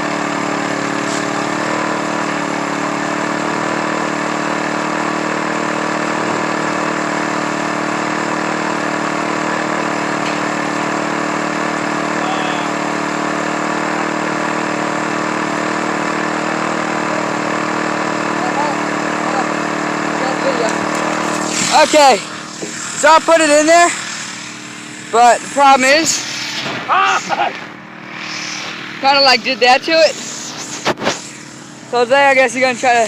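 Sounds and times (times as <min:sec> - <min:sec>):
small engine idling: 0:00.0 - 0:33.0.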